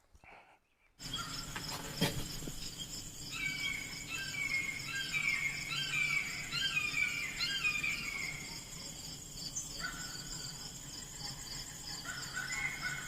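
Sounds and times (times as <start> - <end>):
songbirds chirping: 0.0 - 13.0
insects chirring: 1.0 - 13.0.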